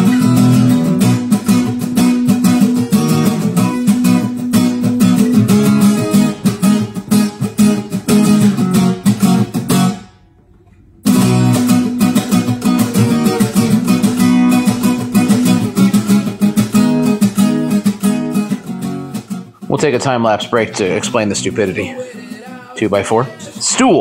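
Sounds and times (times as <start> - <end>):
strummed acoustic guitar chords: 0.0 - 24.0.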